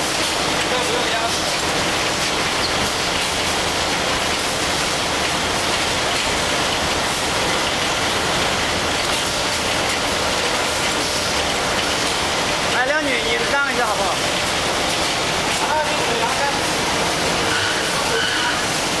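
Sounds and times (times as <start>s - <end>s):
production line machinery running: 0.0s - 19.0s.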